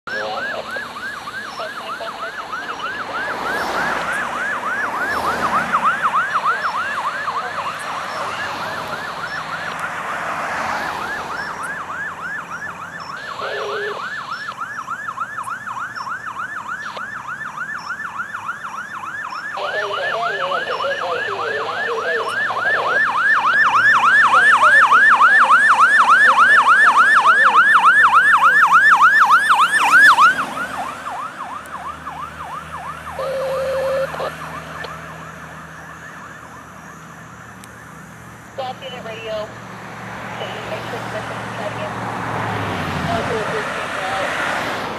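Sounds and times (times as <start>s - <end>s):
cars passing: 0.0s - 44.9s
siren fast yelp: 0.1s - 37.9s.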